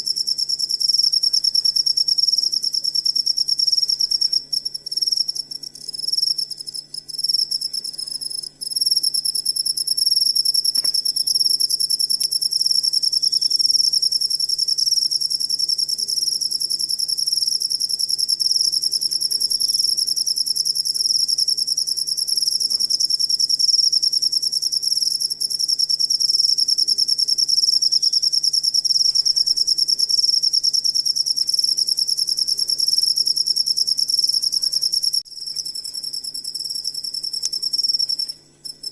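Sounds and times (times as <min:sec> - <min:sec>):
cricket chirping trill: 0:00.0 - 0:38.9.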